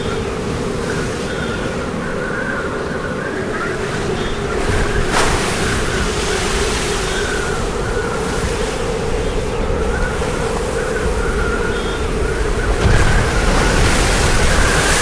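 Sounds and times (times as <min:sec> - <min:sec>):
storm wind howling: 0:00.0 - 0:15.0.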